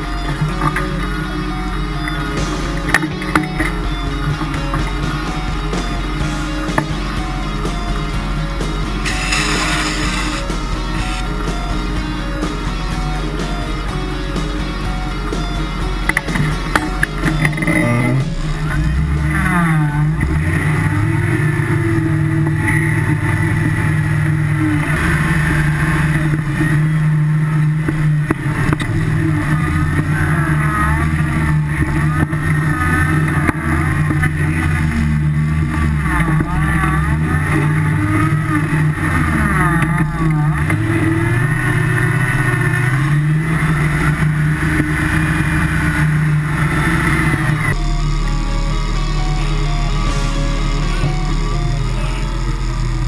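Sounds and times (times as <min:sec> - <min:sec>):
buggy engine revving: 0:00.0 - 0:53.0.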